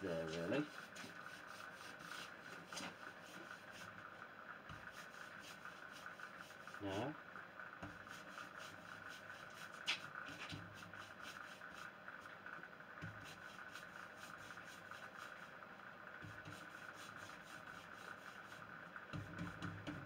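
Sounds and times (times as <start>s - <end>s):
cloth rubbing wood: 0.1s - 4.1s, 4.7s - 7.0s, 7.8s - 12.0s, 13.0s - 15.6s, 16.2s - 20.0s.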